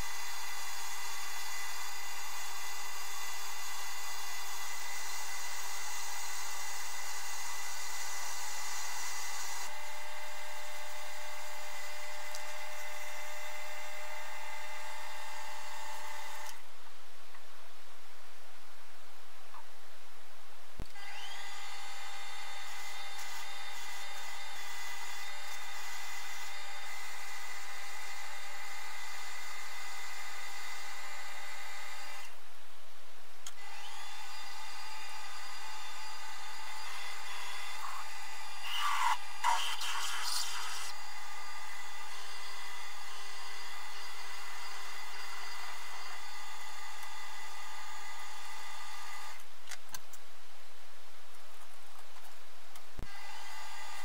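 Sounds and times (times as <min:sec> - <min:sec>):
lathe running with a whine: 0:00.0 - 0:16.6, 0:21.0 - 0:32.3, 0:33.6 - 0:49.4, 0:53.0 - 0:54.0.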